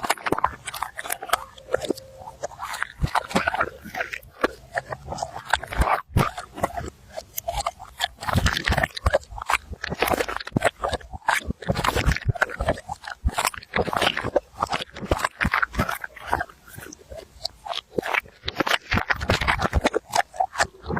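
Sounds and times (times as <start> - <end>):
dog chewing and crunching: 0.0 - 20.9.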